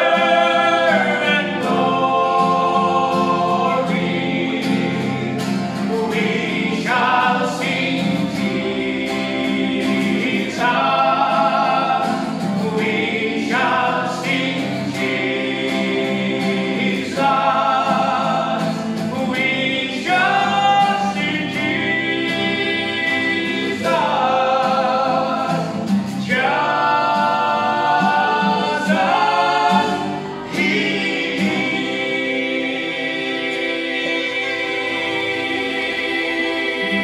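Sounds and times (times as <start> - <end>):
male vocal quartet singing: 0.0 - 37.0
strummed acoustic guitar: 0.0 - 37.0.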